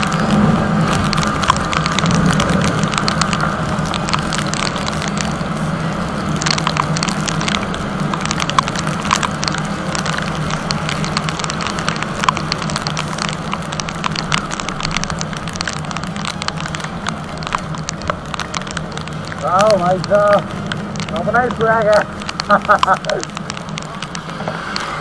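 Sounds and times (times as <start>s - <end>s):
raindrops ticking on helmet camera: 0.0s - 25.0s
wind noise: 0.0s - 25.0s.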